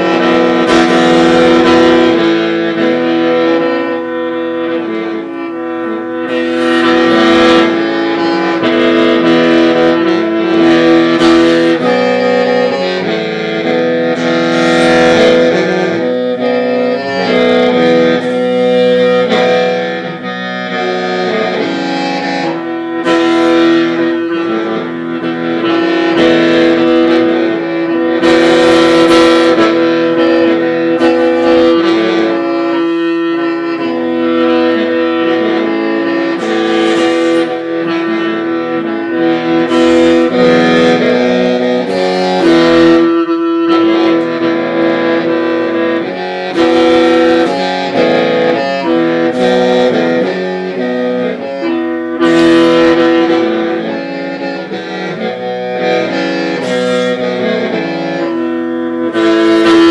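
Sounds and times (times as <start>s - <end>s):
free-reed mouth organ melody: 0.0s - 59.9s.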